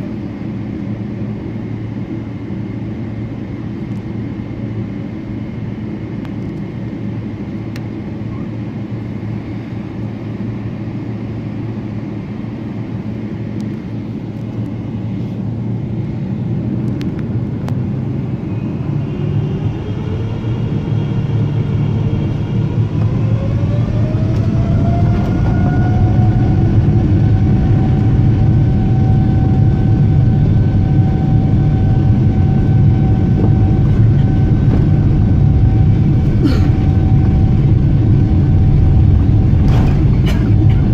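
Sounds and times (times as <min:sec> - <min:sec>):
rising engine whine: 0:00.0 - 0:40.9
jet engines spooling up: 0:00.2 - 0:40.9.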